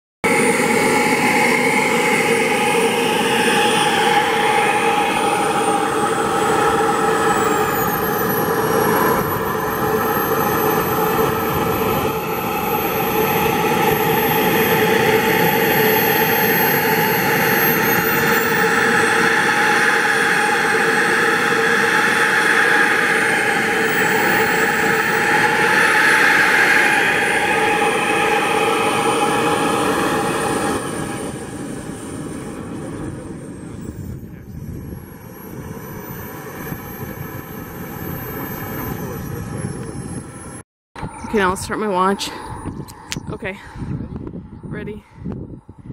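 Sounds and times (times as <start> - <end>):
jet turbine whine: 0.2 - 45.9.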